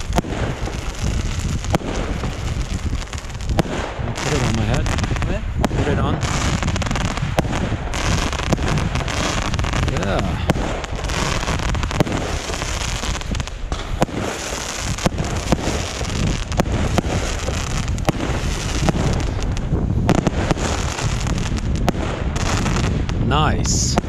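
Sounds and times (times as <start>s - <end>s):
fireworks sharp bangs: 0.0s - 24.0s.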